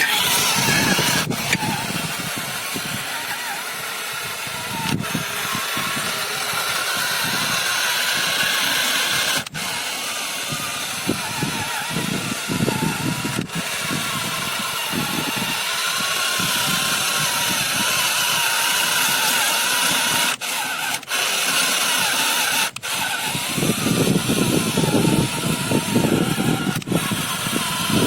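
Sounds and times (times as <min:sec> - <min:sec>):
tractor motor and gearbox whirring: 0:00.0 - 0:28.0.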